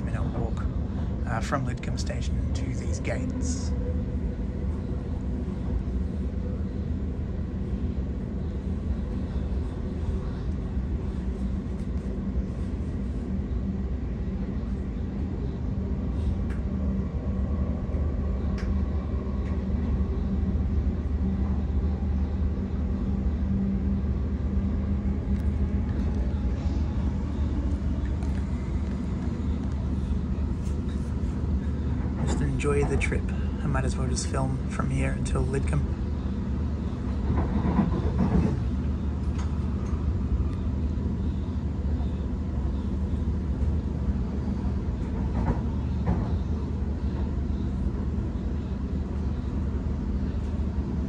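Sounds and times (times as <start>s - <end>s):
even train hum: 0.0s - 51.0s
train wheels rumbling on rail: 0.0s - 51.0s.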